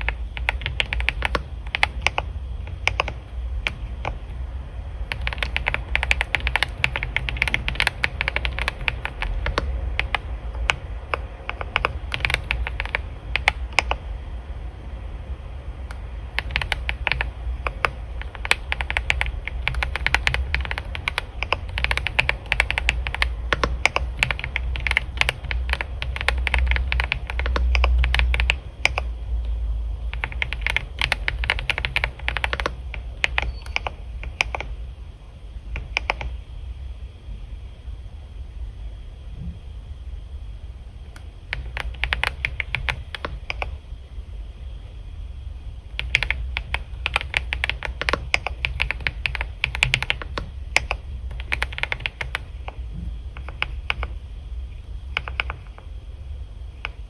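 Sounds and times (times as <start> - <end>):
computer keyboard typing: 0.0 - 14.2, 15.8 - 34.8, 35.6 - 36.4, 41.1 - 43.8, 45.9 - 56.0, 56.7 - 57.0
low hum: 0.0 - 57.0.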